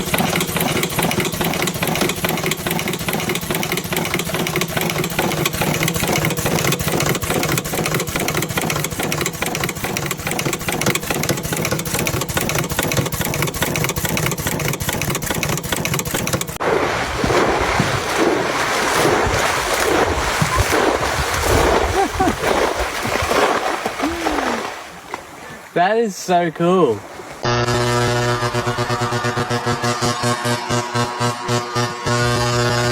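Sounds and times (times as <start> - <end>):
engine running with rattle: 0.0 - 23.4, 27.3 - 32.9.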